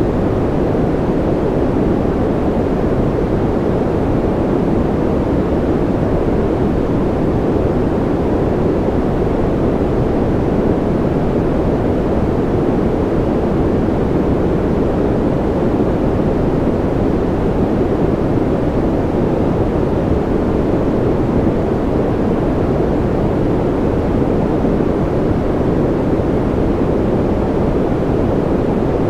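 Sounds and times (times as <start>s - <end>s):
white noise: 0.0s - 29.0s.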